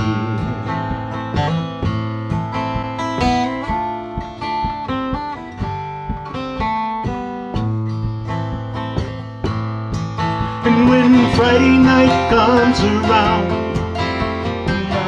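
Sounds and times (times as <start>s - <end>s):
acoustic guitars strumming chords: 0.0s - 15.0s
plucked mandolin melody: 0.0s - 15.0s.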